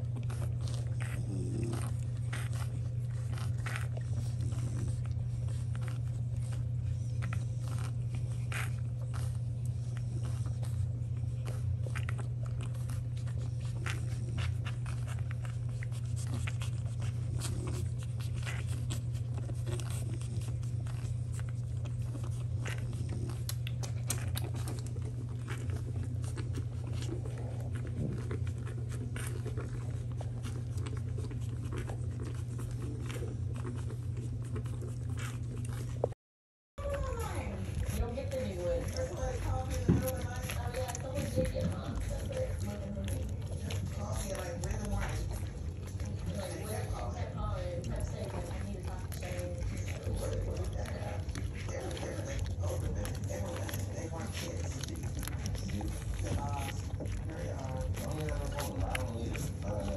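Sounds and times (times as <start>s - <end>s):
puppies suckling: 0.0s - 36.2s, 36.8s - 59.9s.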